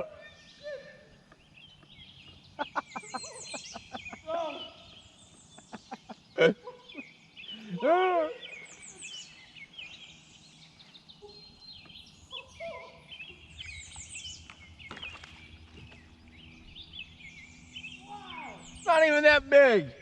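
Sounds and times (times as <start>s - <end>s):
songbirds singing and calling: 0.0s - 20.0s.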